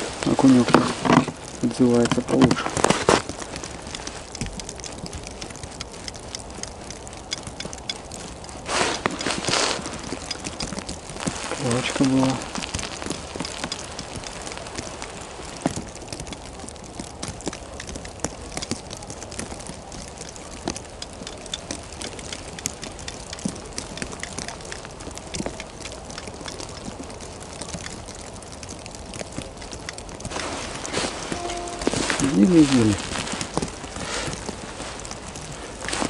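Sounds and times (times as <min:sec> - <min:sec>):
snow ticking: 0:00.0 - 0:36.0.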